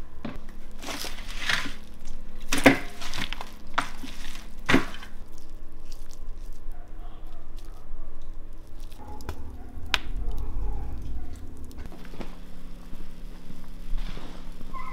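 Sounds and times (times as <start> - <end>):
wood fire rumbling: 0.0 - 14.9
fire crackles: 0.4 - 14.9
soft squishing of meat: 0.7 - 14.9.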